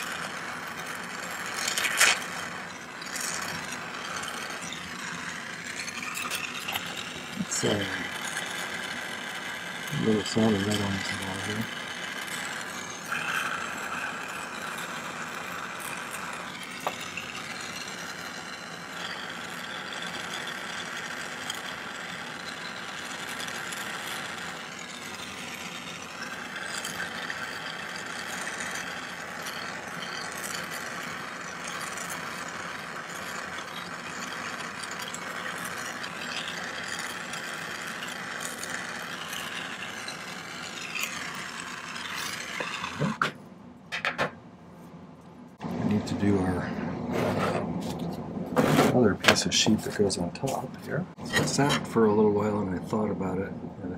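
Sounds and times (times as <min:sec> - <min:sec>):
torch flame hissing: 0:00.0 - 0:43.3.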